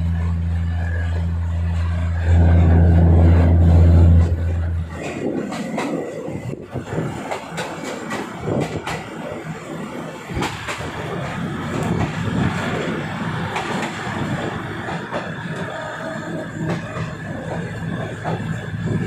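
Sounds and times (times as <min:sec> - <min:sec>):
train rumble heard on board: 0:00.0 - 0:19.0.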